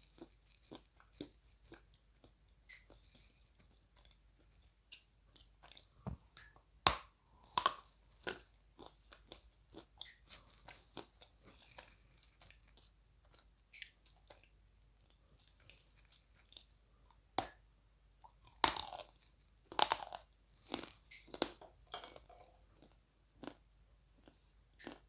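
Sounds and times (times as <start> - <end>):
clay being bitten and chewed: 0.0 - 14.5, 18.4 - 23.6, 24.2 - 25.0.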